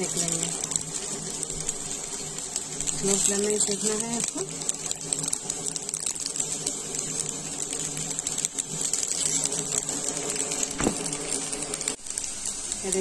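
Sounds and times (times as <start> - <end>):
food sizzling in hot ghee: 0.0 - 13.0
steady low hum: 0.0 - 13.0.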